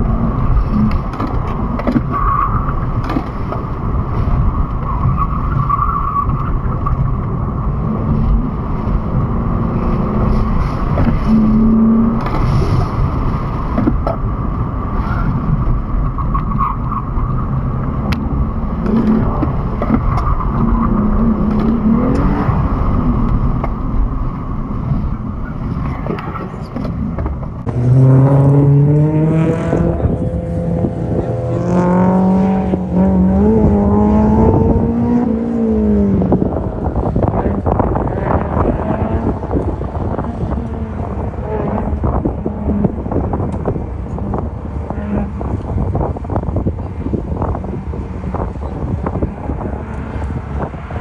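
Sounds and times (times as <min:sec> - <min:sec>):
car engine accelerating: 0:00.0 - 0:51.0
tyre and wind noise: 0:00.0 - 0:51.0.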